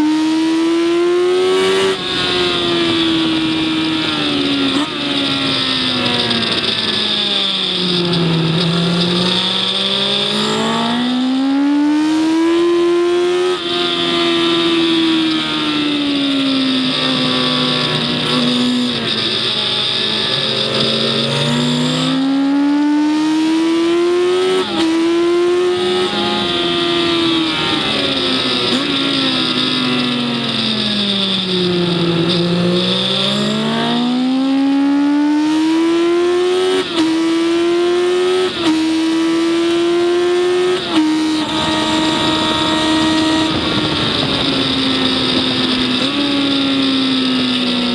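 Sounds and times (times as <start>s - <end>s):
race car engine revving: 0.0s - 47.9s
wind and road noise: 0.0s - 47.9s.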